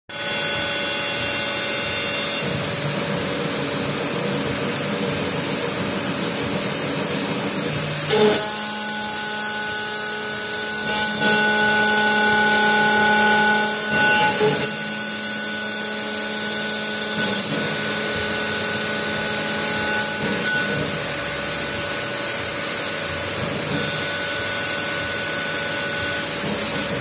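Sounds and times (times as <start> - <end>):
cnc router grinding: 0.1 - 27.0.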